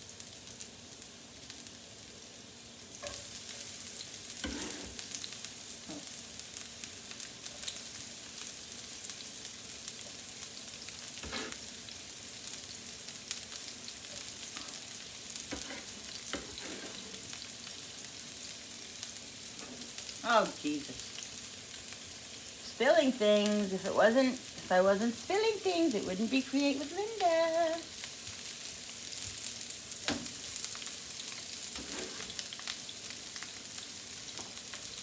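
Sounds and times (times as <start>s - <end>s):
onions sizzling in a pan: 0.0s - 35.0s.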